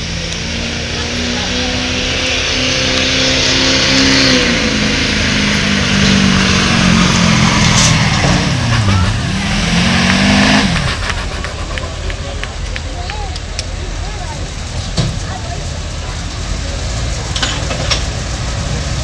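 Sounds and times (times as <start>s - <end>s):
engine revving under heavy load: 0.0s - 19.0s.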